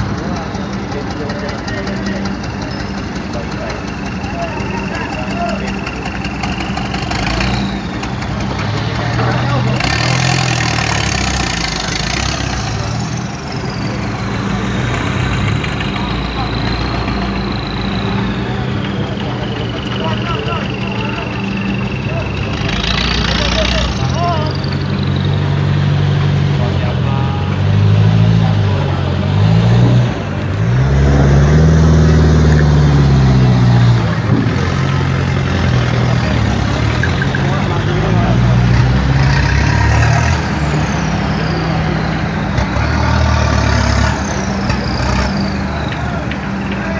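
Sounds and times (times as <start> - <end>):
large engine idling: 0.0 - 46.9.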